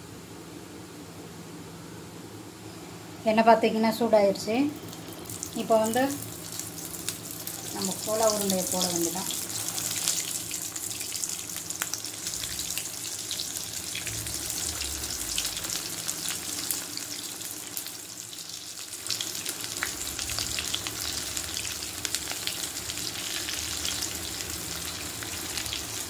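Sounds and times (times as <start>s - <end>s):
balls deep-frying in hot oil: 3.6s - 26.0s.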